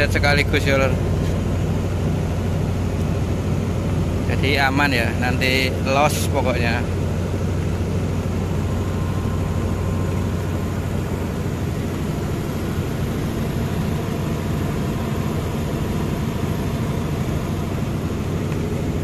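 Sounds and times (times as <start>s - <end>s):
diesel generator humming: 0.0s - 19.0s.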